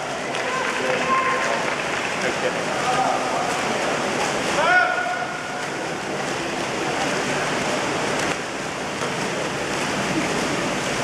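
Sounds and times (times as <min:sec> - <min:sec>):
swimmers splashing water: 0:00.0 - 0:11.0.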